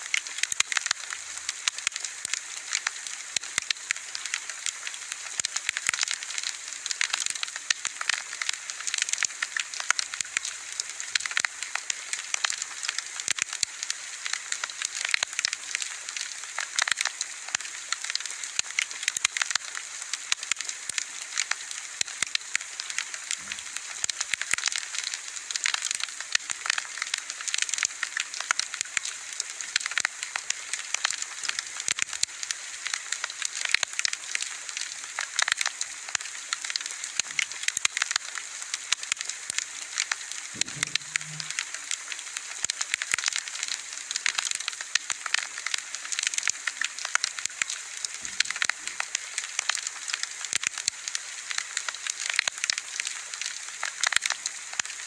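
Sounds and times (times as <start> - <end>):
bonfire crackling: 0.1 - 55.0.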